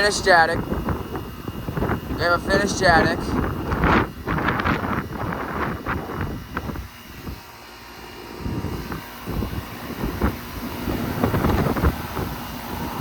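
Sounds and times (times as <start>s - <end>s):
wind gusting across microphone: 0.0s - 13.0s.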